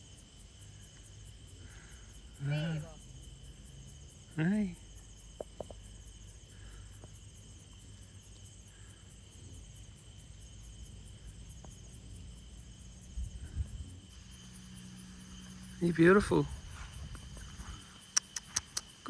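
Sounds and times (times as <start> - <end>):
constant high insect buzz: 0.0 - 19.0
insects chirping: 0.0 - 19.0.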